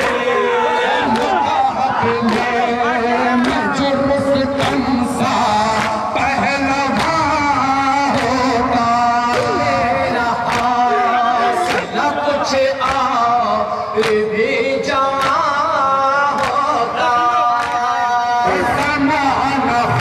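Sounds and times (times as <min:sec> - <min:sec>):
man singing a lament: 0:00.0 - 0:20.0.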